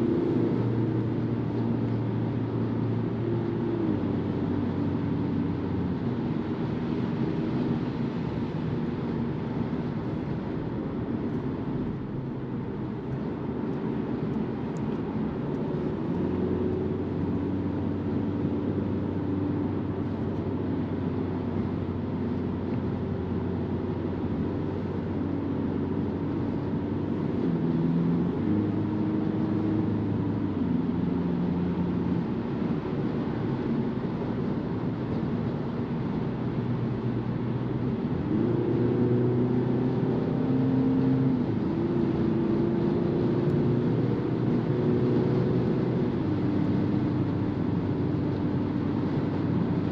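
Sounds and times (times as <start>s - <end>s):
low diesel engine drone: 0.0s - 49.9s.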